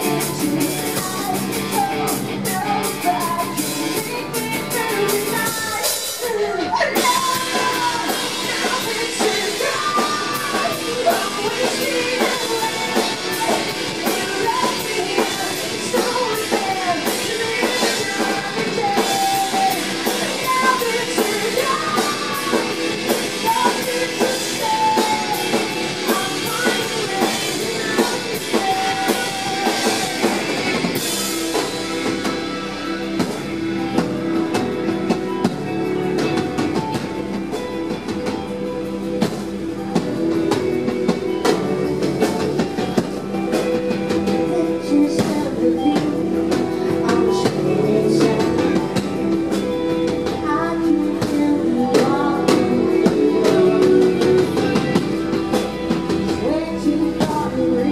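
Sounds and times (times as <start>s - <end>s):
woman singing: 0.0s - 32.4s, 40.0s - 57.9s
drum kit: 0.0s - 57.9s
electric guitars: 0.0s - 57.9s.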